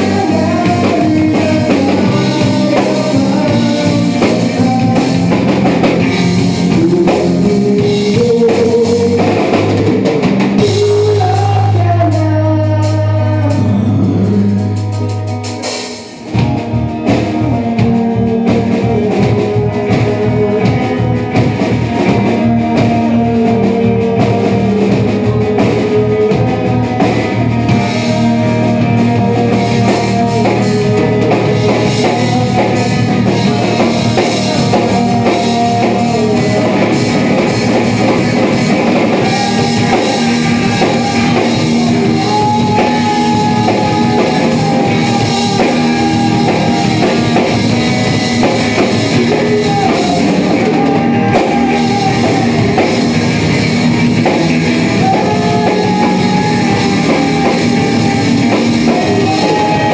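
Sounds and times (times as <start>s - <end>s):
drum kit: 0.0s - 59.9s
electric bass: 0.0s - 59.9s
electric guitar: 0.0s - 59.9s.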